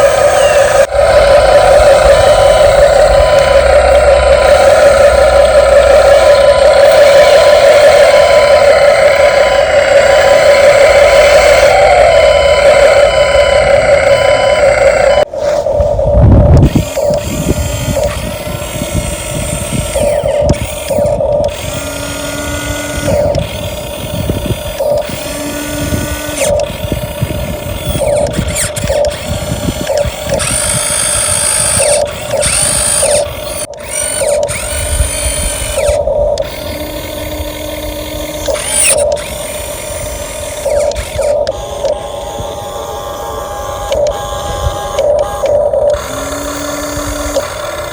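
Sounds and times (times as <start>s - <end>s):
electric toy truck motor whining: 0.0s - 47.9s.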